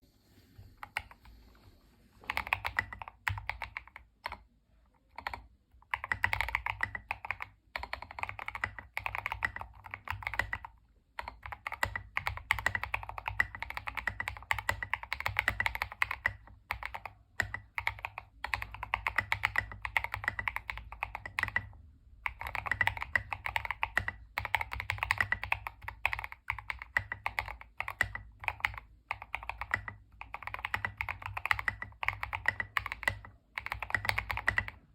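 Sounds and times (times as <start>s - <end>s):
mechanical keyboard typing: 2.2s - 34.9s.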